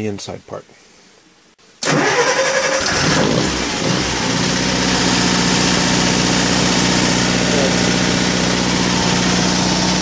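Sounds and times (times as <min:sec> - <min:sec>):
generator engine starting up: 0:01.8 - 0:10.0.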